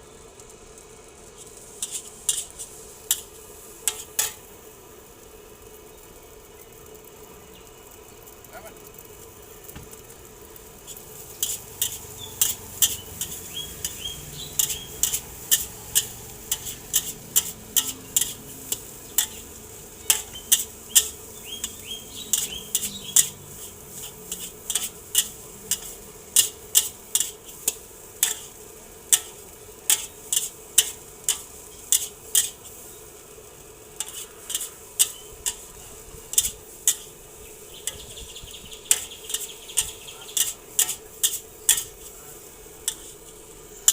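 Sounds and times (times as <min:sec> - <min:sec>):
rice sizzling: 0:00.0 - 0:43.9.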